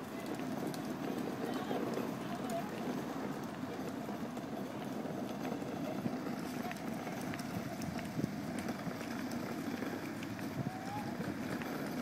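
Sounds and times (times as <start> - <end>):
footsteps on a paved path: 0.0 - 12.0
low outdoor rumble: 0.0 - 12.0.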